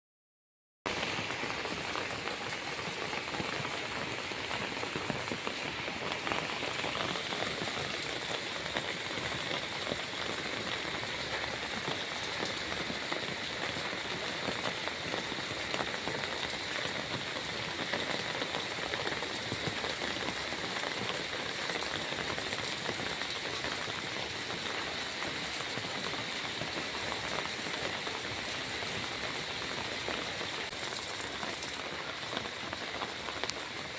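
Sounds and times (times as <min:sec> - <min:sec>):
water hissing with fine patter: 0:00.9 - 0:33.9.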